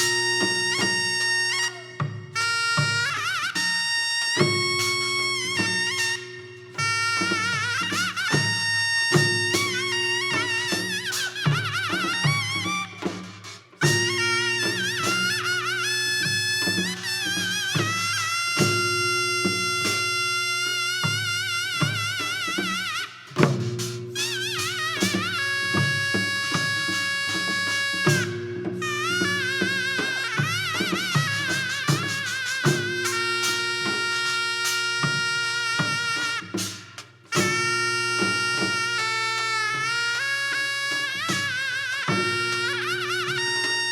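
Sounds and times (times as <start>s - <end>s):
drum strokes: 0.0s - 43.9s
reedy wind instrument melody: 0.0s - 43.9s.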